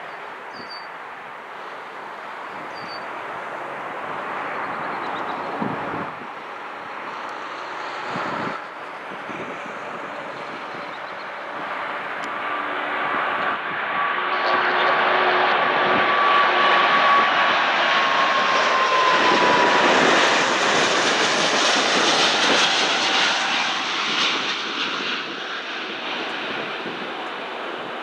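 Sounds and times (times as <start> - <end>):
airliner jet engines whining: 0.0 - 28.0.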